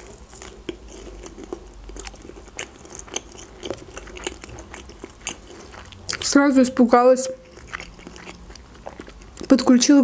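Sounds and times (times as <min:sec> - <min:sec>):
crunchy chewing: 0:00.0 - 0:06.4, 0:07.3 - 0:09.6.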